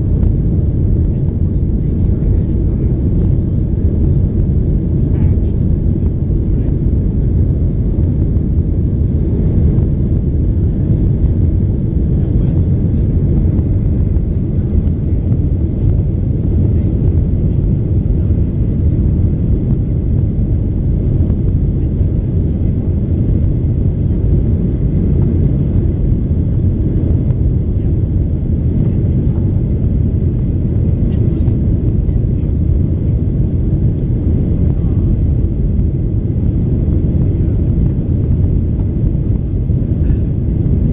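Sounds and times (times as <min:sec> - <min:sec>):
airliner cabin engine noise: 0:00.0 - 0:40.9.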